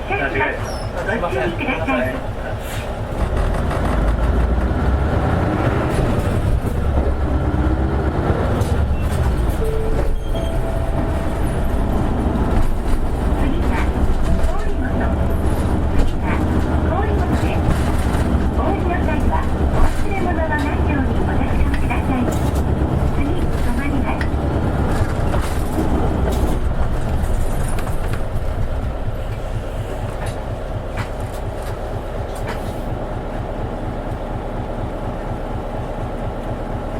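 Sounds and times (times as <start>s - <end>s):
bus diesel engine rumbling: 0.0s - 36.9s.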